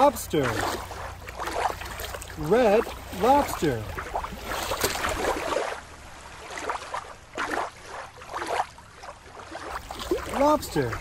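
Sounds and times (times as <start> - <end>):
water lapping and sloshing: 0.0 - 11.0.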